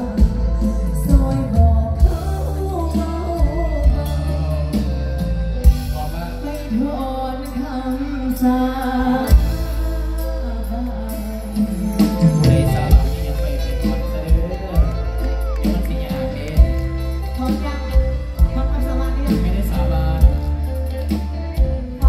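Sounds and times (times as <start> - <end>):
heavy bass line: 0.0 - 22.0
live band music through pa: 0.0 - 22.0
person singing: 0.0 - 22.0.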